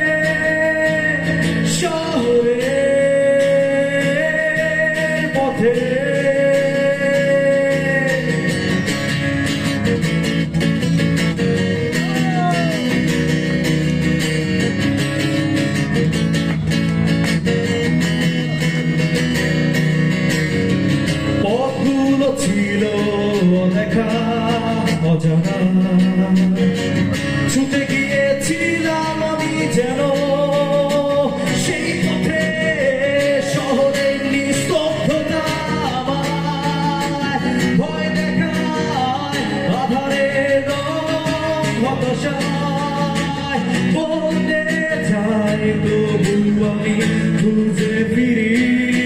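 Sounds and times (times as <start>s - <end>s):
man singing: 0.0s - 10.6s, 11.4s - 15.9s, 20.9s - 49.0s
acoustic guitars: 0.0s - 49.0s.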